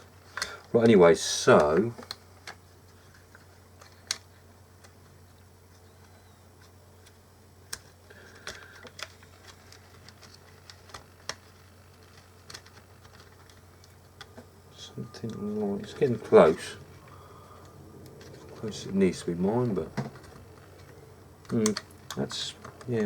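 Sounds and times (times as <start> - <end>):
low steady hum: 0.0 - 23.0
plastic parts clicking: 1.6 - 5.0, 6.0 - 14.5, 15.2 - 23.0.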